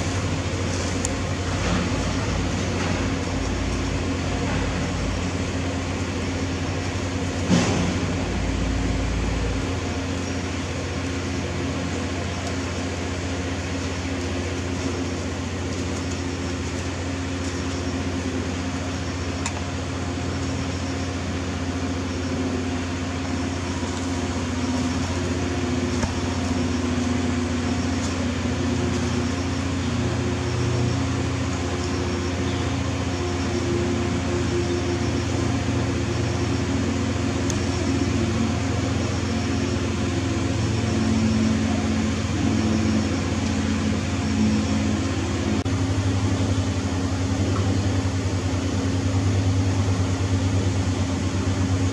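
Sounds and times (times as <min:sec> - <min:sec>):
low machine hum: 0:00.0 - 0:51.9.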